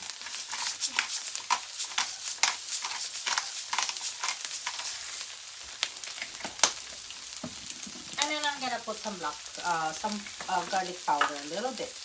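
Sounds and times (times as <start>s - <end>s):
eggs sizzling in a pan: 0.0s - 12.0s
sharp crackles and pops: 0.0s - 12.0s.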